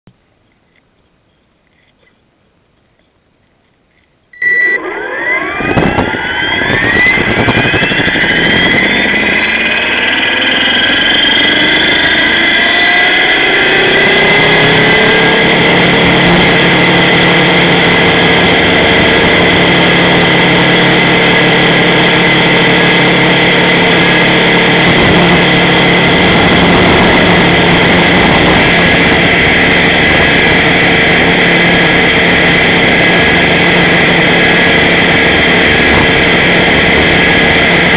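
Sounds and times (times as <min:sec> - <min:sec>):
helicopter motor and rotor whine: 0:04.4 - 0:37.9.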